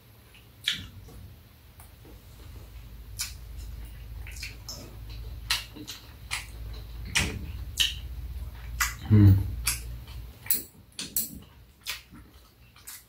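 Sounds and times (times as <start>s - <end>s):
low steady hum: 0.0s - 13.0s
chewing and lip-smacking: 0.3s - 1.2s, 1.8s - 13.0s.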